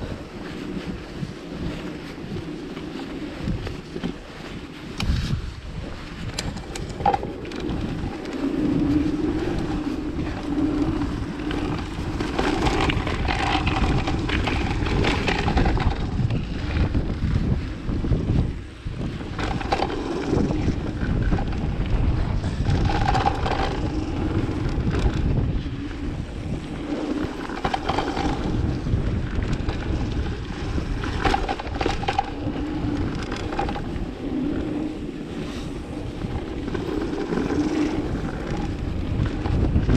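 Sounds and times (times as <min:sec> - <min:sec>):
bike rattling over bumps: 0:00.0 - 0:39.9
bike tyres rolling: 0:00.0 - 0:39.9
wind rushing over microphone: 0:00.0 - 0:39.9.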